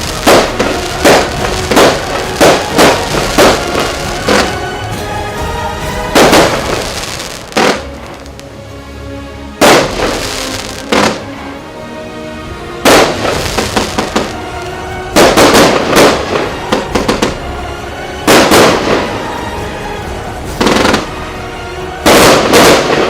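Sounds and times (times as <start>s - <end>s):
fireworks bangs: 0.0s - 8.4s, 9.6s - 11.3s, 12.8s - 17.5s, 18.2s - 21.4s, 22.0s - 23.0s
fireworks crackling bursts: 0.0s - 8.6s, 9.6s - 11.4s, 12.8s - 23.0s.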